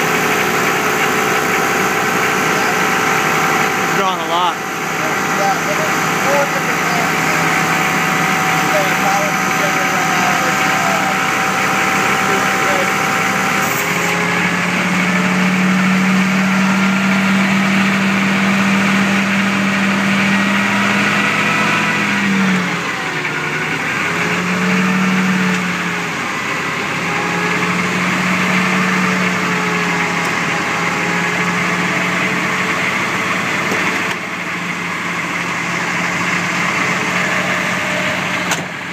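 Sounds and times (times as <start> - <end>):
diesel engine running: 0.0 - 38.9
electric air compressor running: 0.0 - 38.9.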